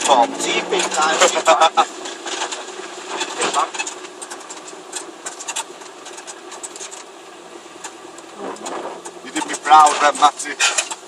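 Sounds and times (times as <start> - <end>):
car engine droning at low revs: 0.0 - 11.0.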